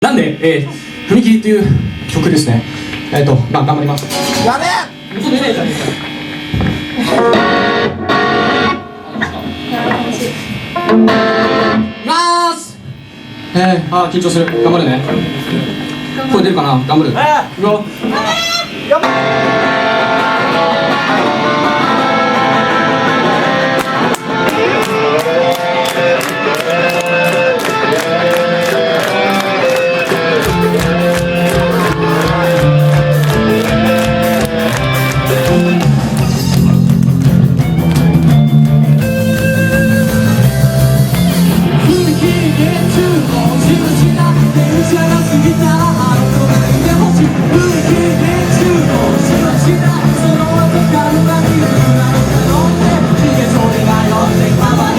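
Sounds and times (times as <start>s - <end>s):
guitar: 0.0s - 54.9s
live rock band playing: 2.7s - 13.1s, 17.6s - 54.9s.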